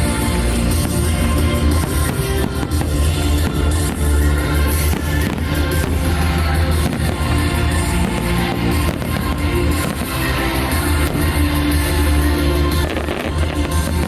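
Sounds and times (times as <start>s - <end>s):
music with heavy bass and drums: 0.0s - 14.0s.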